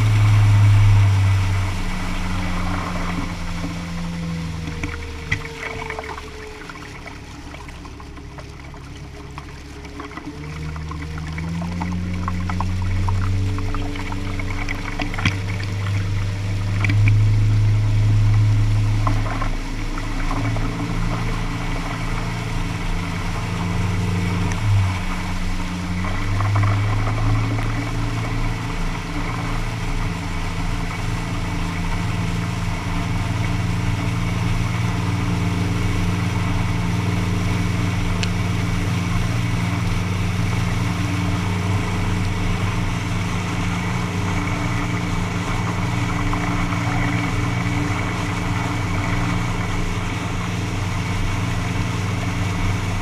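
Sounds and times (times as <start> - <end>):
boat engine running: 0.0 - 53.0
water rushing along hull: 0.0 - 53.0.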